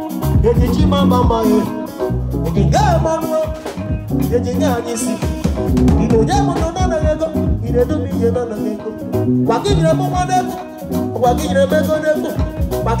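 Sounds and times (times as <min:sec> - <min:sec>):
drum kit: 0:00.0 - 0:13.0
guitar: 0:00.0 - 0:13.0
man singing into a microphone: 0:00.0 - 0:13.0.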